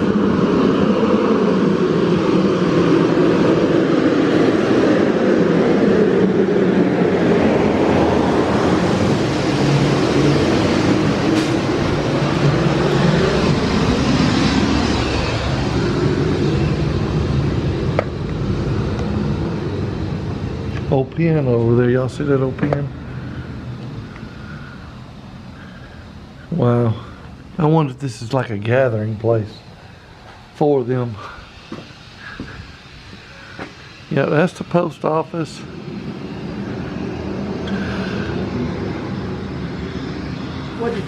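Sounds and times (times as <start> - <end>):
heavy vehicle passing: 0.0 - 34.6, 35.2 - 41.0.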